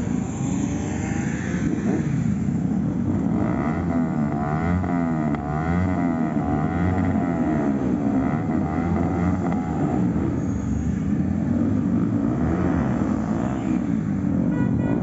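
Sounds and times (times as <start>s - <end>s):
motorcycle engines droning: 0.0s - 15.0s.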